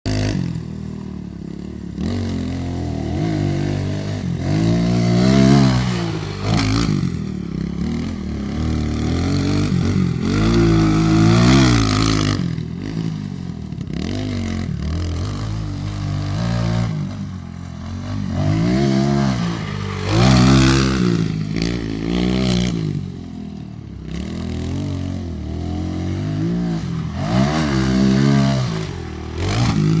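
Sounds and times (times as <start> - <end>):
dirt bike engine revving: 0.1 - 30.0.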